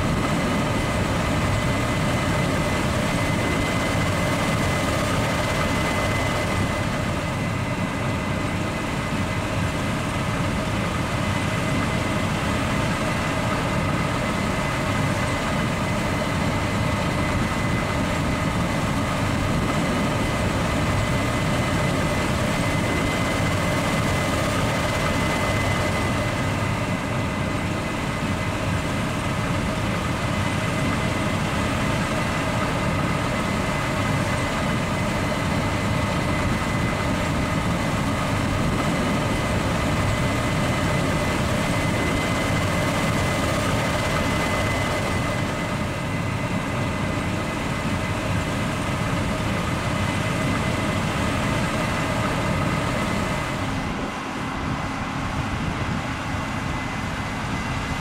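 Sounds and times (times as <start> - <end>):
high machine whine: 0.0 - 58.0.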